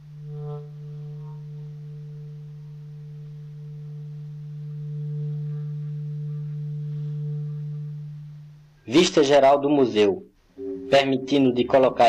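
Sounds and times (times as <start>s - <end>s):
low held music note: 0.0s - 9.1s, 10.6s - 12.0s.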